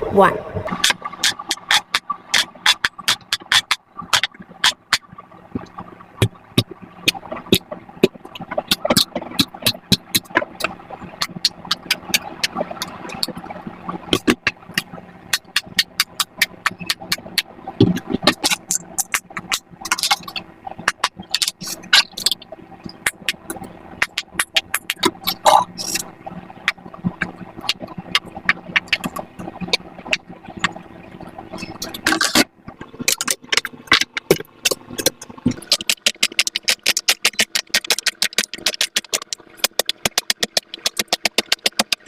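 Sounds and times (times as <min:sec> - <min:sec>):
fidget toy bubbles popping: 0:00.7 - 0:42.0.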